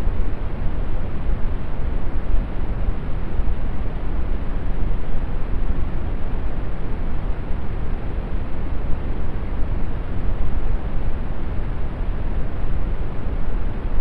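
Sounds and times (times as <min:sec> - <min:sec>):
brown noise hiss: 0:00.0 - 0:14.0.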